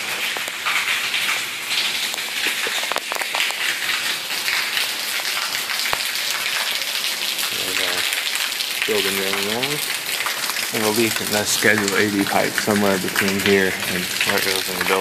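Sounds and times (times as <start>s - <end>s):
water drips and splats: 0.0s - 15.0s
water splashing on concrete floor: 0.0s - 15.0s.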